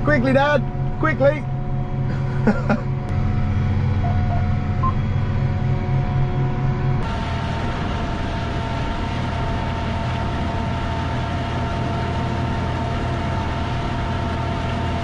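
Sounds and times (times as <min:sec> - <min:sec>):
steady whine: 0:00.0 - 0:15.0
tractor diesel engine running: 0:00.0 - 0:15.0.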